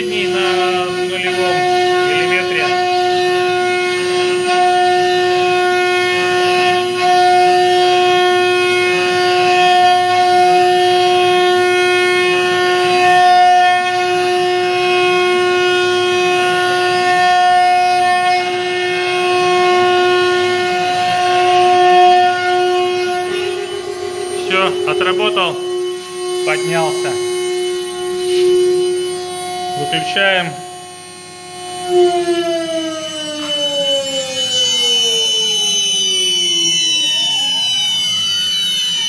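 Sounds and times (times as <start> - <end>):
motor whine rising and falling: 0.0 - 39.0
router spindle high whine: 0.0 - 39.0.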